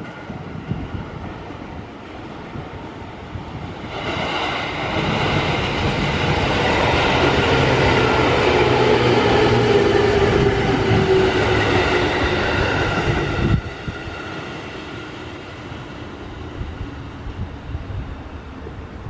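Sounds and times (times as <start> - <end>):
train approaching on track: 0.0 - 19.0.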